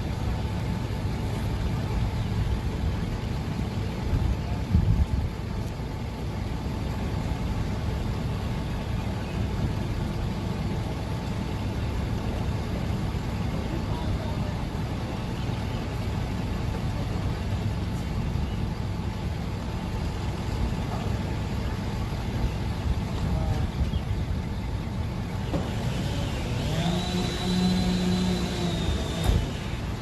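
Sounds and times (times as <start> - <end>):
vehicle rumbling: 0.0 - 30.0.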